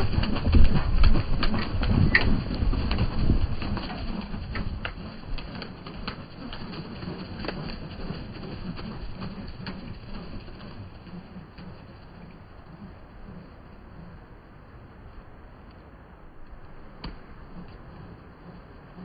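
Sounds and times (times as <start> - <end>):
sharp clicks and wing claps: 0.0 - 14.2, 16.4 - 19.0
doves' wings flapping: 0.0 - 14.5, 16.4 - 19.0.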